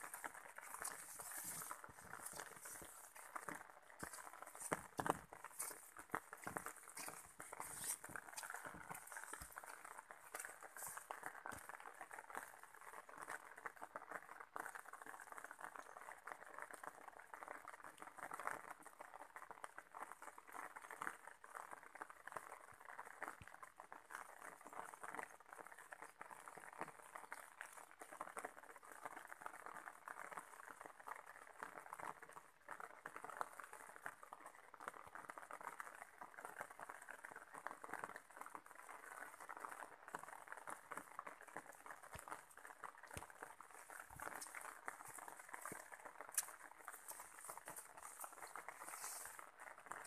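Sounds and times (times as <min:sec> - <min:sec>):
light rain on leaves: 0:00.0 - 0:50.0.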